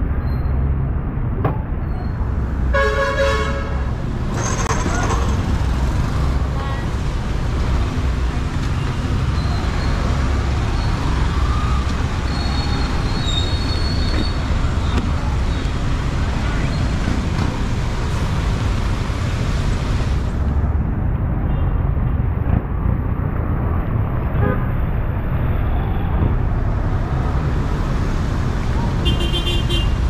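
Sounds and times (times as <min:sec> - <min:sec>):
motorcycle road rumble: 0:00.0 - 0:30.0.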